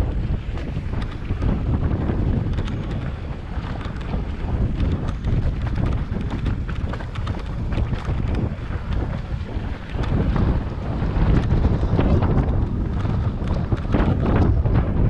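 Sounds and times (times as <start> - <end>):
wind buffeting microphone: 0.0 - 15.0
bike clicks and rattles: 0.6 - 10.5, 11.3 - 15.0.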